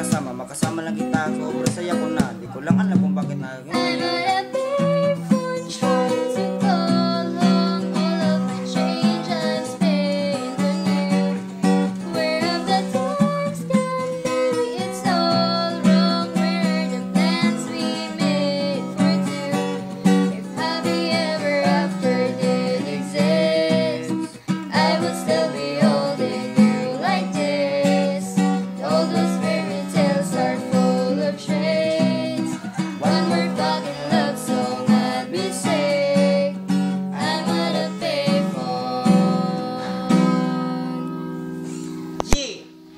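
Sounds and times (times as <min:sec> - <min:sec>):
acoustic guitar music: 0:00.0 - 0:42.9.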